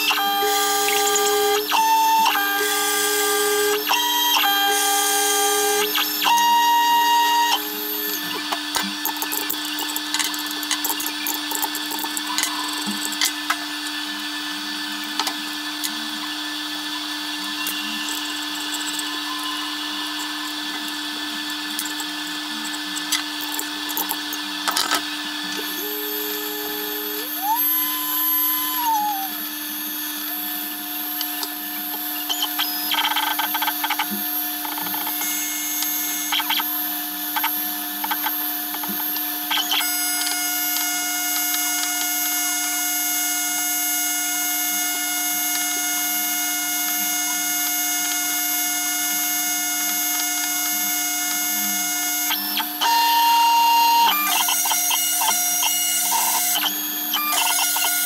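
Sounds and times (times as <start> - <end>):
cnc router machine whine: 0.0 - 58.0.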